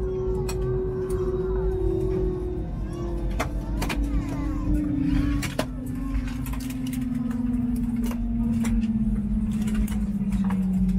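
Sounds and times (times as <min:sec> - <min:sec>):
airliner engine winding down: 0:00.0 - 0:10.9
low cabin rumble: 0:00.0 - 0:10.9.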